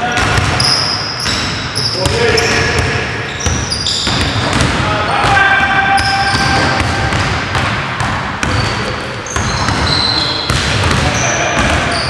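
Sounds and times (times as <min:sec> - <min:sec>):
sneakers squeaking: 0:00.0 - 0:12.0
basketball bouncing on wooden floor: 0:00.1 - 0:05.4, 0:06.3 - 0:12.0.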